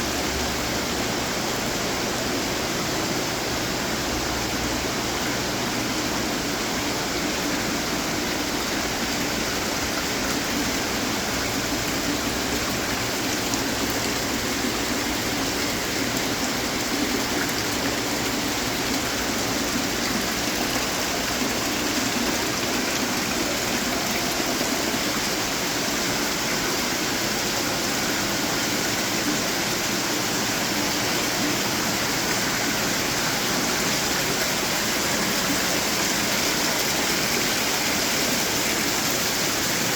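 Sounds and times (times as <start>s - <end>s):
fountains splashing: 4.9s - 39.9s.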